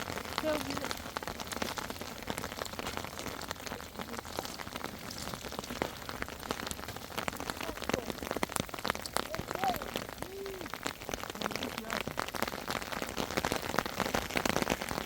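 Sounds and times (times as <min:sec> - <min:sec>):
raindrops ticking on a surface: 0:00.0 - 0:15.0
steady rain falling: 0:00.0 - 0:15.0.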